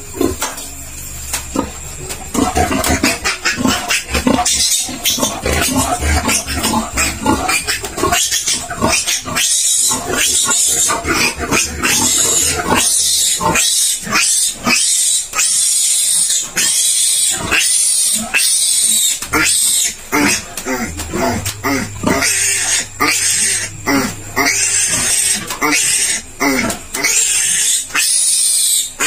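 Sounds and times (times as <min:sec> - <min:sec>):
piglet squealing: 0:02.4 - 0:29.0.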